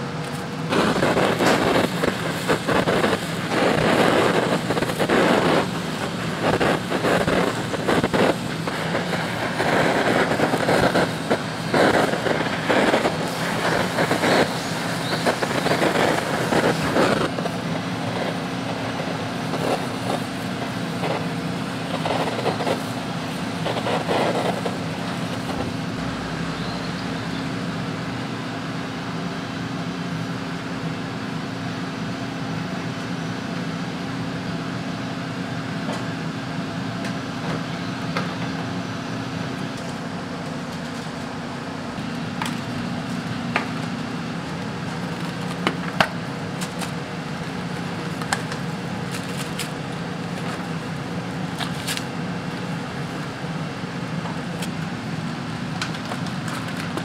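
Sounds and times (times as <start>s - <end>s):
mechanical hum with low drone: 0.0s - 57.0s.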